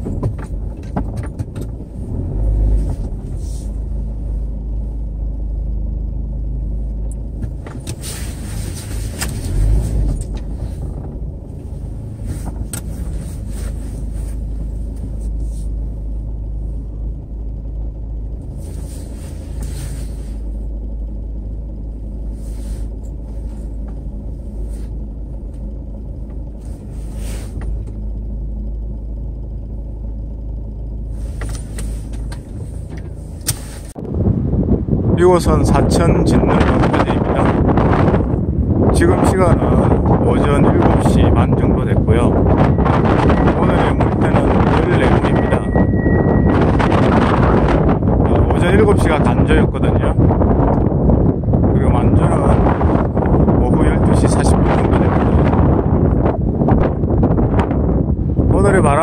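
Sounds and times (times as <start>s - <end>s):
car engine and road rumble: 0.0s - 59.0s
low bumps: 0.0s - 59.0s.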